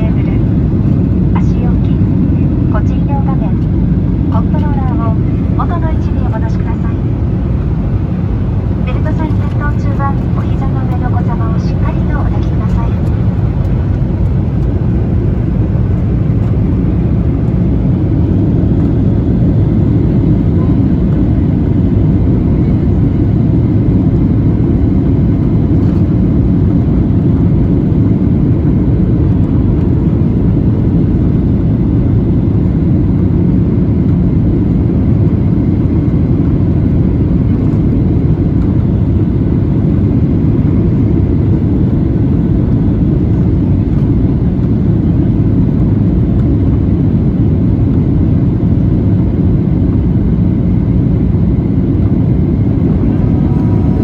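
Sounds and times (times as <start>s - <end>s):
airplane cabin engine noise: 0.0s - 54.0s.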